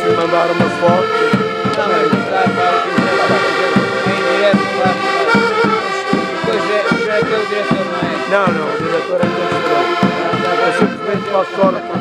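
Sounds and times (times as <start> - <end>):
bass drum beat: 0.0 - 12.0
button accordions playing folk tune: 0.0 - 12.0.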